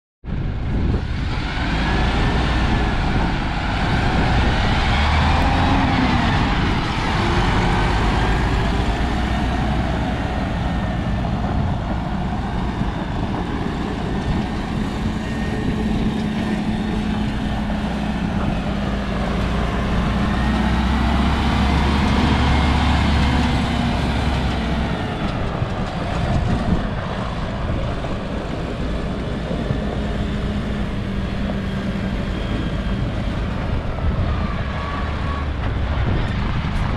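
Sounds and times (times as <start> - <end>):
diesel truck engine running: 0.3 - 36.9.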